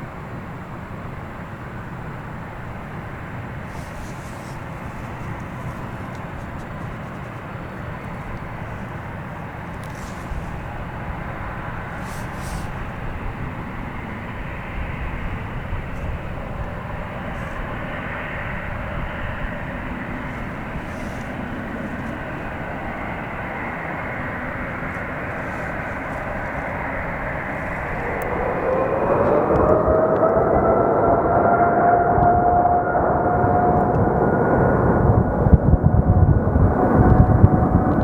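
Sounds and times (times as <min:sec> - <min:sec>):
jet engine whine rising: 0:00.0 - 0:38.0
jet engines rumbling: 0:00.0 - 0:38.0.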